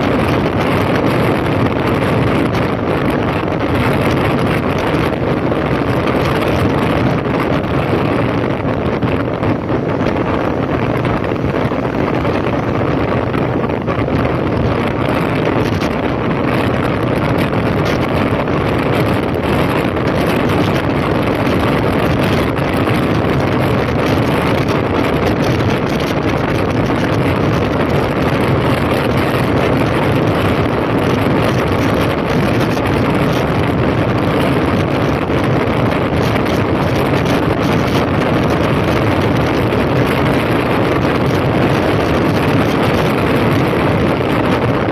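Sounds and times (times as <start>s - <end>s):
motorcycle engine running: 0.0s - 44.9s
wind buffeting microphone: 0.0s - 44.9s.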